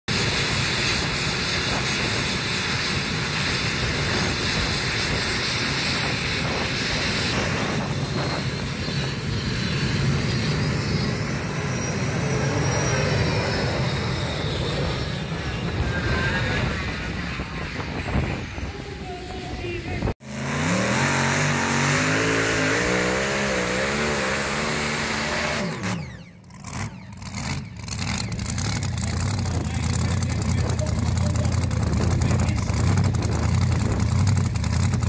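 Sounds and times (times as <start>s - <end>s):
tractor engine under full power: 0.1s - 35.0s.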